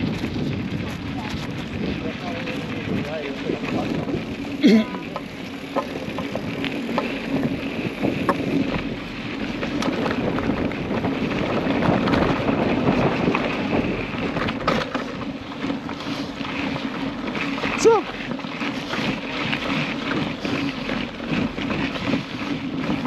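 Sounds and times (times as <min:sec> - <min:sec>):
off-road vehicle engine drone: 0:00.0 - 0:23.0.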